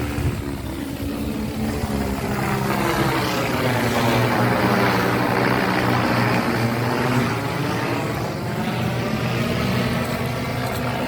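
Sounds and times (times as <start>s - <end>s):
aircraft propellers humming: 0.0s - 11.0s.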